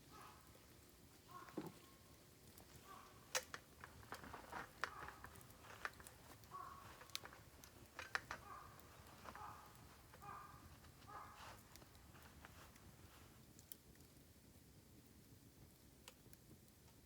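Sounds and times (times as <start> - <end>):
bamboo fire crackling and popping: 0.0 - 17.0.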